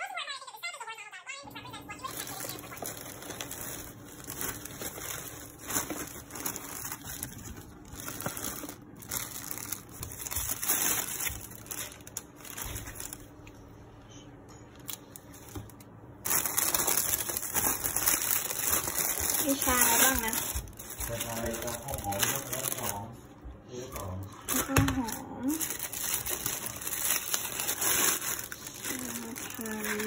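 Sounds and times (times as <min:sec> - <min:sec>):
plastic bags crinkling: 0:01.8 - 0:13.6, 0:14.8 - 0:23.2, 0:23.9 - 0:30.0.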